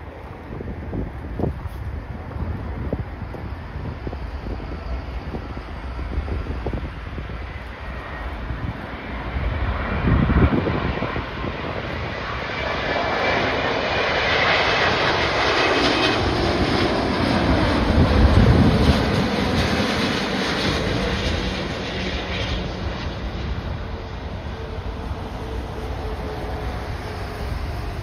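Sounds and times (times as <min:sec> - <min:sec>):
jet roar passing low: 0:00.0 - 0:28.0.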